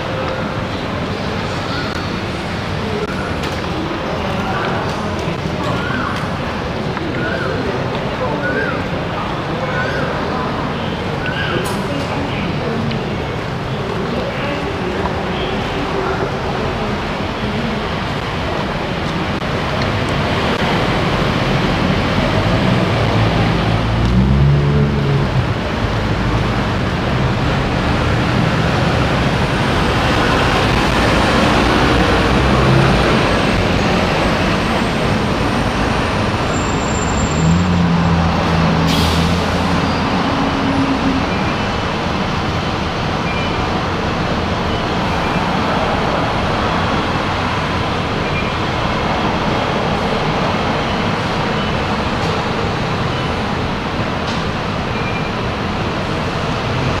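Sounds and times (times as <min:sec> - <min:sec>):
bus engine hum: 0:00.0 - 0:57.0
traffic noise: 0:00.0 - 0:57.0.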